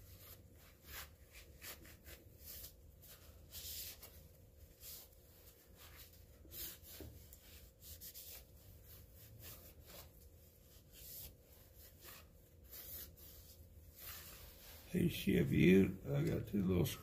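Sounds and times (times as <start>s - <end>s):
paper towel swishing on metal: 0.0s - 15.2s.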